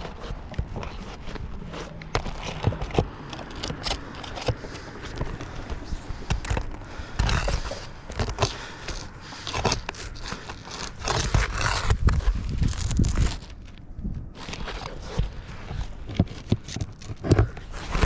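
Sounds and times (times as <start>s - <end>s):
scraping on roof shingles: 0.0s - 13.8s, 14.4s - 18.0s.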